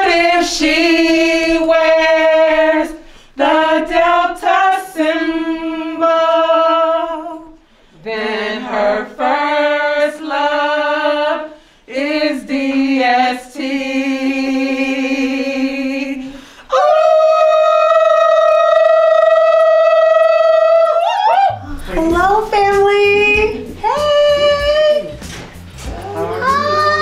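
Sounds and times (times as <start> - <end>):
women singing unaccompanied: 0.0 - 25.1.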